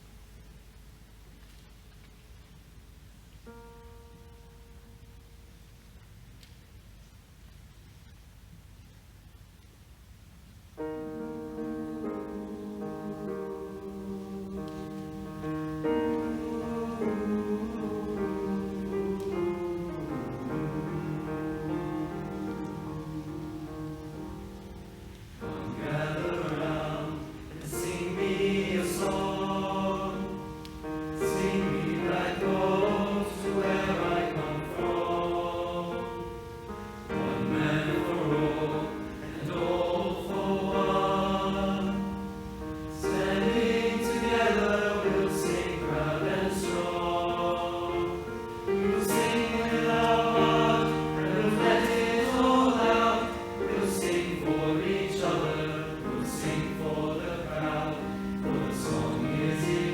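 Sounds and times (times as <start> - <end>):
choir singing: 11.1 - 59.9.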